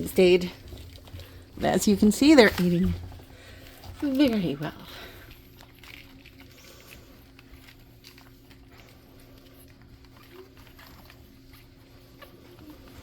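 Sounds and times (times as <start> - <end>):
puppies suckling clicks: 0.0 - 13.0.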